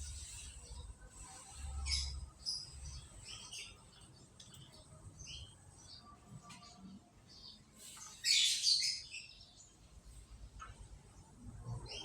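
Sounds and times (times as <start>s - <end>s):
canary chirping: 0.0s - 9.8s.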